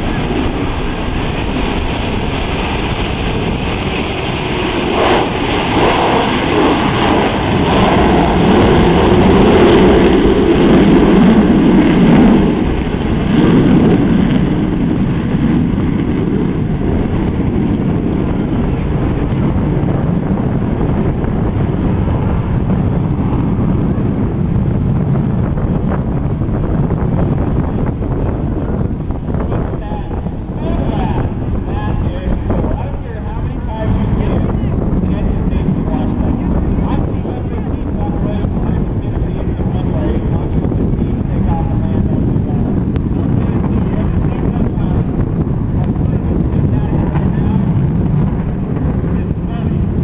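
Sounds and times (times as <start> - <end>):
jet engines roaring at takeoff: 0.0 - 50.0.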